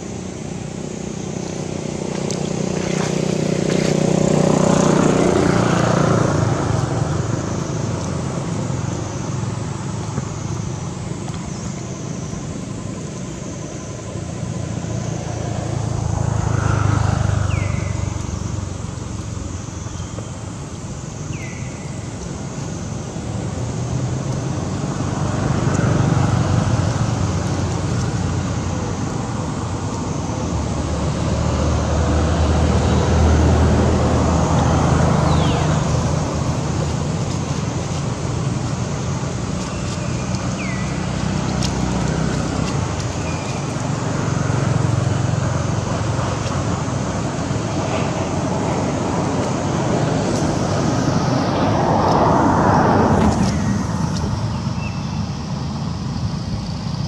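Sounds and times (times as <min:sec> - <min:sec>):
vehicles passing on road: 0:00.0 - 0:57.0.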